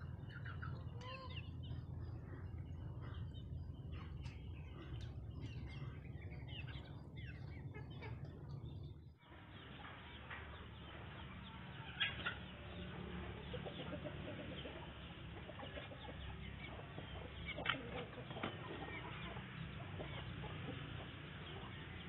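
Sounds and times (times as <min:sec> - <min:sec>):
chickens clucking: 0:00.0 - 0:22.0
low steady rumble: 0:00.0 - 0:22.0.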